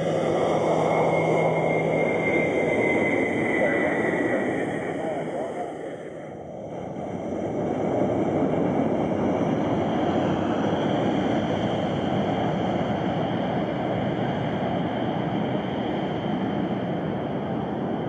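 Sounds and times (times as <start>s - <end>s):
high fan whine: 0.0s - 18.0s
jet engine rumble: 0.0s - 18.0s.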